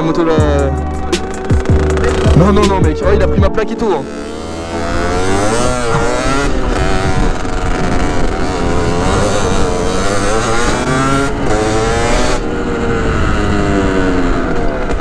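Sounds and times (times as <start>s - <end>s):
two-stroke motorbike engine revving: 0.0s - 15.0s.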